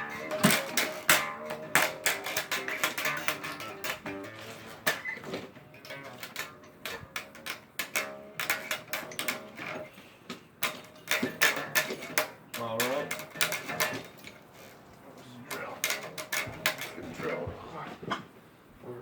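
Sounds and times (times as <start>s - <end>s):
plucked guitar music: 0.0s - 18.1s
sharp clicks and knocks: 0.0s - 18.4s.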